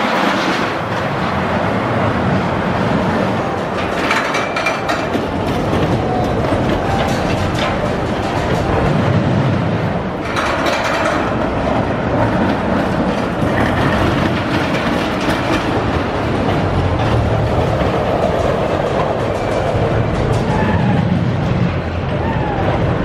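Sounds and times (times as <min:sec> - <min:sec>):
roller coaster wheels on rail: 0:00.0 - 0:23.0.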